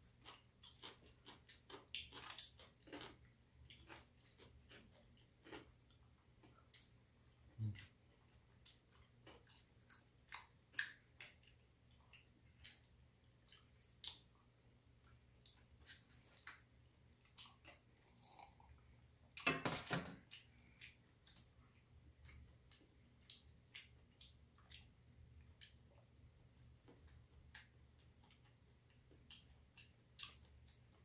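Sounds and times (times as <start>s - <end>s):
chewing: 0.0s - 18.9s, 20.2s - 31.0s.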